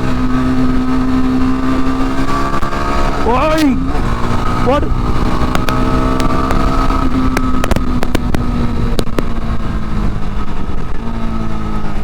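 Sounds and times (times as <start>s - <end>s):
motorcycle engine pulling: 0.0s - 12.0s
wind rumble on microphone: 0.0s - 12.0s.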